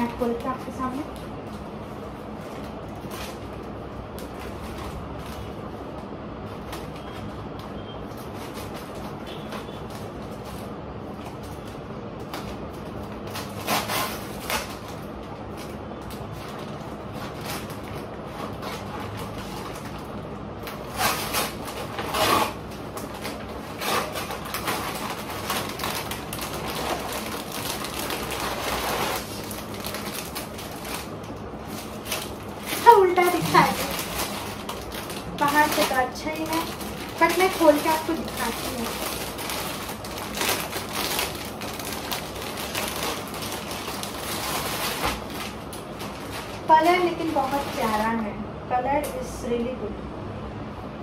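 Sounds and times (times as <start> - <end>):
packaging rustling and tearing: 0.0 - 48.3
steady background noise: 0.0 - 51.0.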